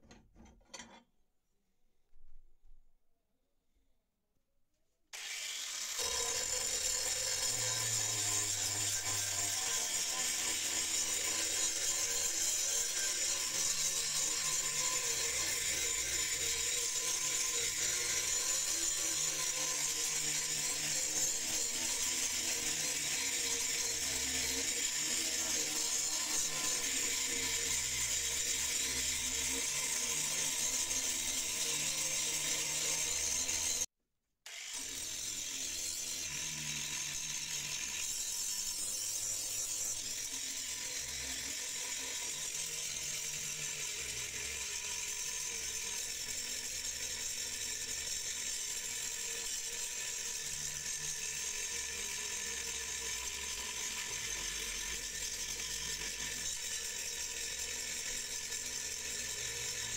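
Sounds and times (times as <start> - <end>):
angle grinder grinding metal: 0.0 - 1.0, 5.2 - 33.9, 34.5 - 59.9.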